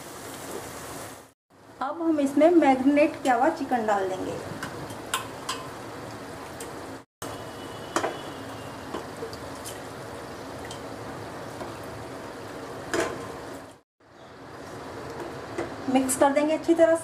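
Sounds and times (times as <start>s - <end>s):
steady sizzle: 0.0s - 17.0s.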